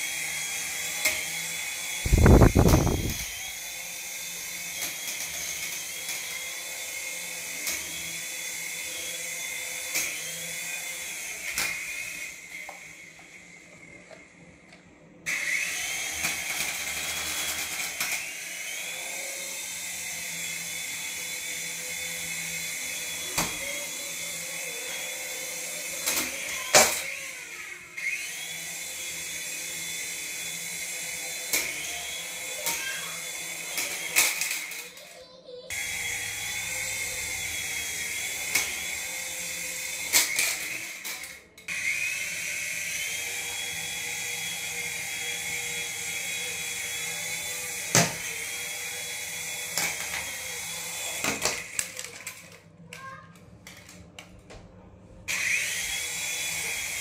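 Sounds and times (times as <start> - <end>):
small electric motor whine: 0.0 - 14.3, 15.2 - 35.0, 35.7 - 52.5, 55.3 - 57.0.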